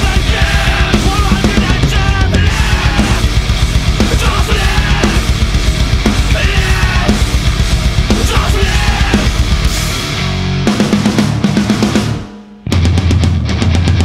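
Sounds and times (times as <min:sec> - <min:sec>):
metal band playing: 0:00.0 - 0:14.0.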